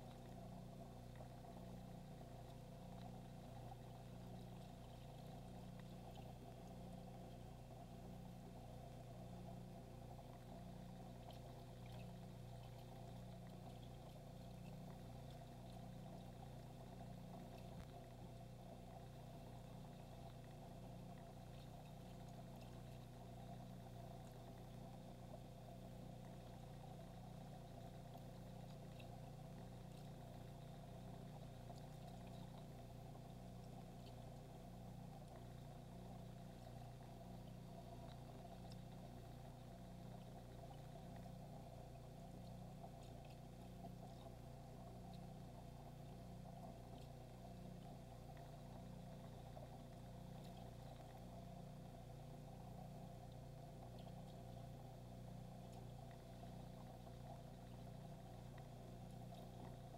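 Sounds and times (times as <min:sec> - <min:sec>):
aquarium equipment humming: 0:00.0 - 0:59.9
faint ticks: 0:00.0 - 0:59.9
water trickling: 0:00.0 - 0:59.9.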